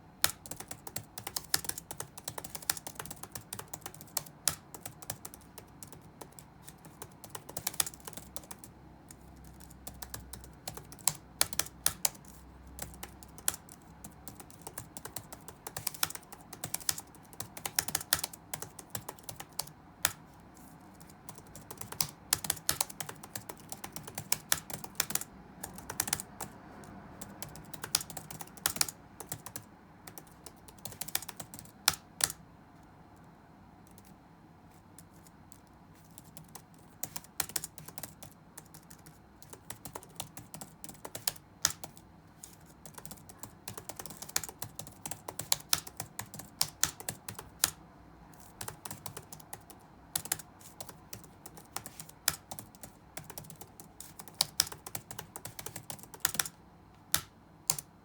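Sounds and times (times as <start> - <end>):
typing on computer keyboard: 0.0 - 32.4, 33.8 - 34.2, 35.0 - 58.0.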